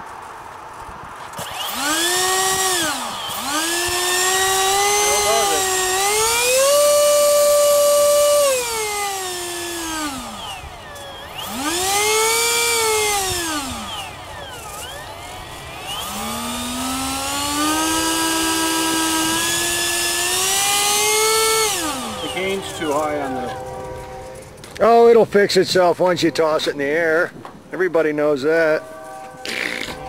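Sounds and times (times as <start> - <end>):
model plane motor whining: 1.2 - 25.1, 28.8 - 30.0.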